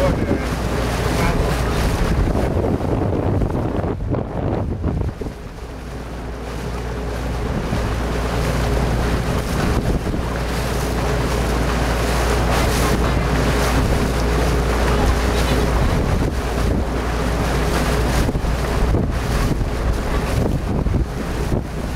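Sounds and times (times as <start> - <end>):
motorboat engine hum: 0.0 - 21.9
wind buffeting microphone: 0.0 - 21.9.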